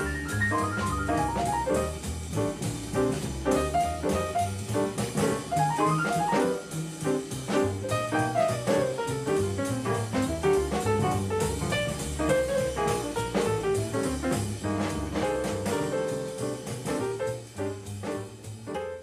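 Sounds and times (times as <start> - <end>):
double bass: 0.0 - 19.0
drum kit: 0.0 - 19.0.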